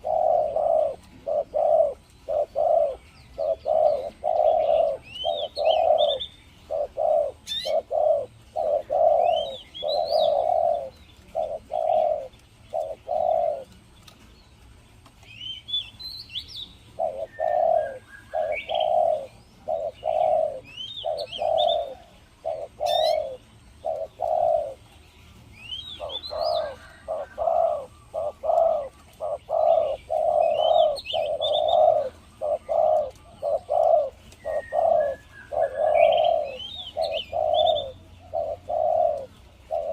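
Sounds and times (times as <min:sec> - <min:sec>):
dove cooing: 0:00.0 - 0:14.3, 0:15.0 - 0:39.9
small birds chirping: 0:00.0 - 0:39.9.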